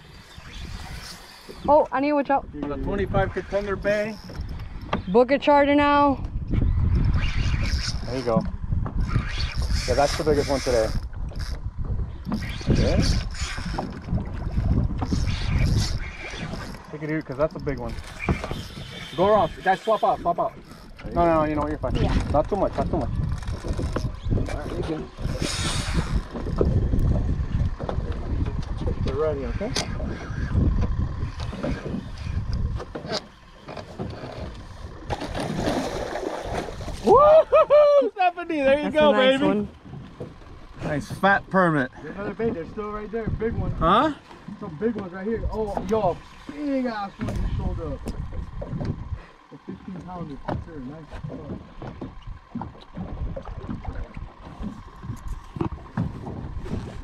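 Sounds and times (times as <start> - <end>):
wind buffeting microphone: 0.0 - 33.1, 38.6 - 57.0
waves slapping against boat hull: 0.0 - 37.3, 38.2 - 57.0.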